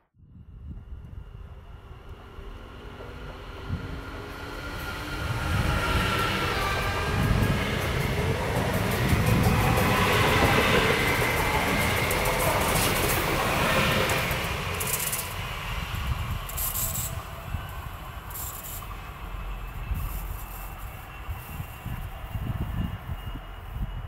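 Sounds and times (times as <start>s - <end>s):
wind rumble on microphone: 0.1s - 24.0s
train wheels clattering on rails: 2.9s - 24.0s.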